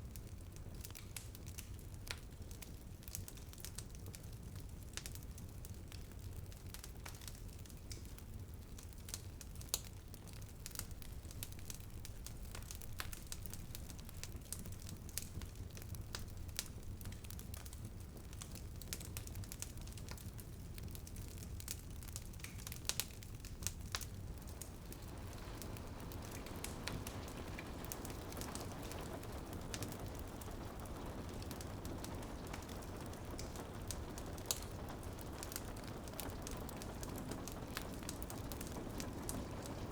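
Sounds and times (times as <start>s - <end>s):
rain pattering on a window: 0.0s - 39.9s
wood fire crackling and popping: 0.0s - 39.9s.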